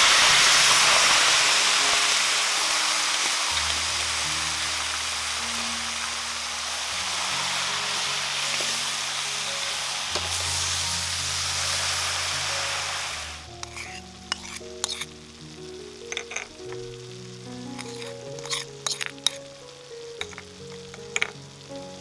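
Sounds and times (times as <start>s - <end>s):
food sizzling in a pan: 0.0s - 22.0s
music with low sustained notes: 0.0s - 22.0s.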